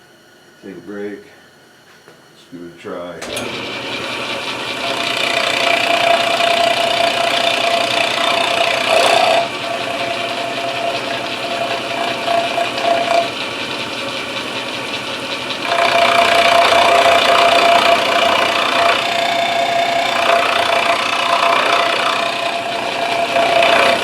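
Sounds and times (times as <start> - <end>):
milling machine whine: 3.1 - 24.0.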